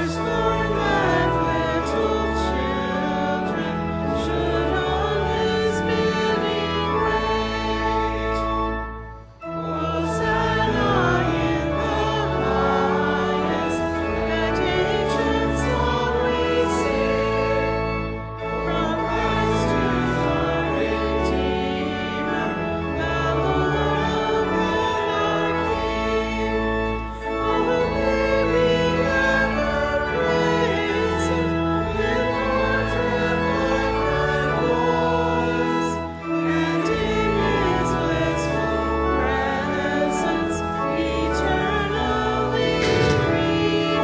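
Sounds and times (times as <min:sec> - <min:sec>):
organ accompaniment: 0:00.0 - 0:44.0
voices singing a hymn: 0:00.0 - 0:44.0.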